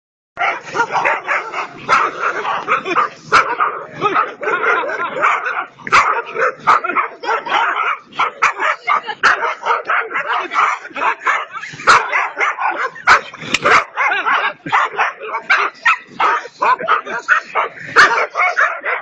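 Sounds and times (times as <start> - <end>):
dog barking: 0.4 - 19.0.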